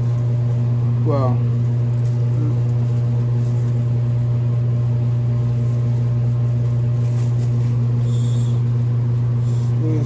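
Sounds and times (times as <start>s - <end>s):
loud steady low hum: 0.0s - 10.0s.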